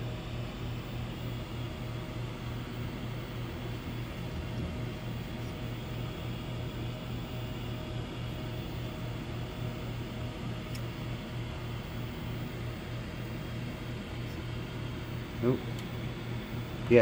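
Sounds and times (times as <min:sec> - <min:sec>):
low electrical hum with hiss: 0:00.0 - 0:17.0.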